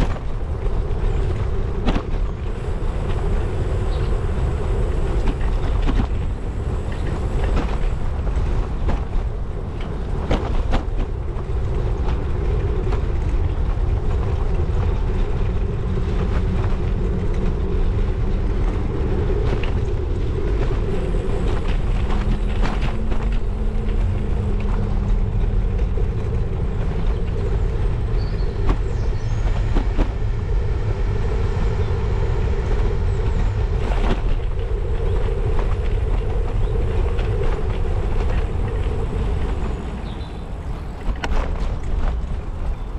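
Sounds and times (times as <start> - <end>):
bicycle tyres rumbling: 0.0 - 42.9
wind noise: 0.0 - 42.9.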